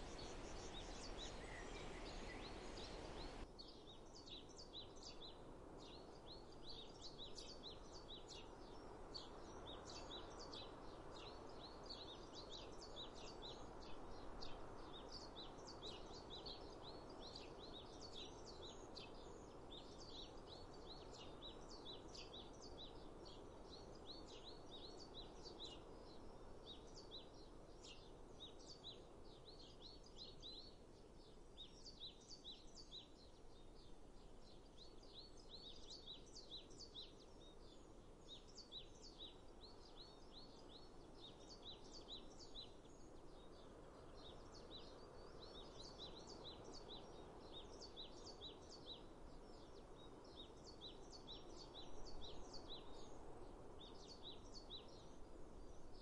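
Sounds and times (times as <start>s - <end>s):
small birds chirping: 0.0s - 56.0s
soft steady outdoor hiss: 0.0s - 56.0s.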